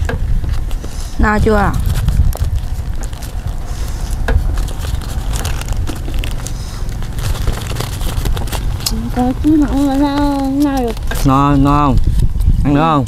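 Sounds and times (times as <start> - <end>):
steady low rumble: 0.0 - 13.0
rice paper crackling: 0.4 - 12.1.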